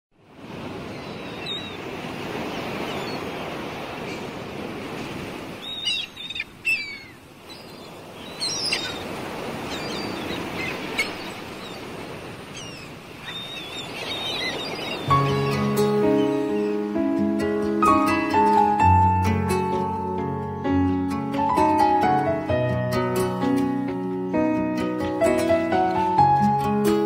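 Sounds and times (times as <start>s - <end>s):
surf-like rush: 0.2s - 27.0s
birds chirping: 0.8s - 22.5s.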